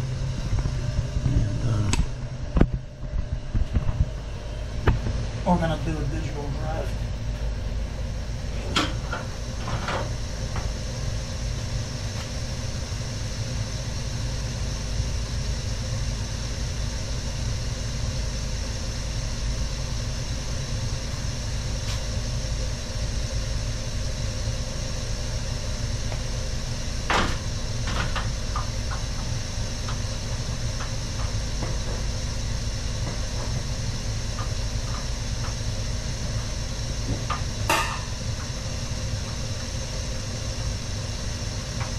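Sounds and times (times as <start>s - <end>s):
gas burner rumbling and hissing: 0.0s - 41.9s.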